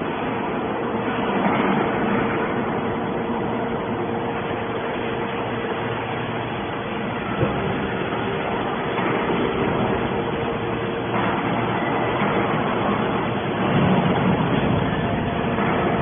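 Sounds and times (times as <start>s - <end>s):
can baler machine running: 0.0s - 16.0s.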